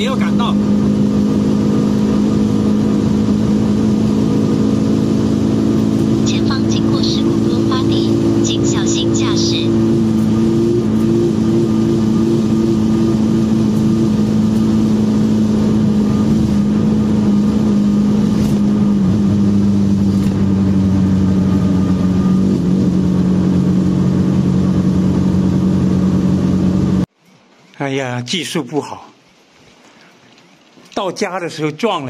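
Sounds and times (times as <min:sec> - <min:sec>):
van engine drone: 0:00.0 - 0:27.1
tyre and road noise: 0:00.0 - 0:27.6.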